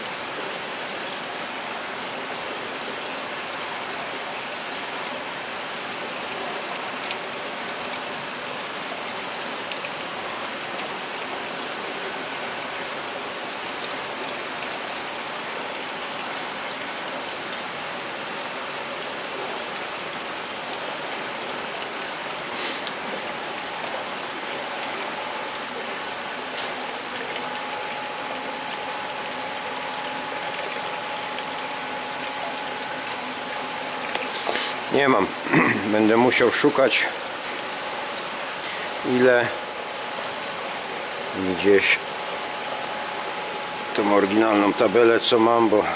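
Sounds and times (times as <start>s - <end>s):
water rushing: 0.0s - 45.9s.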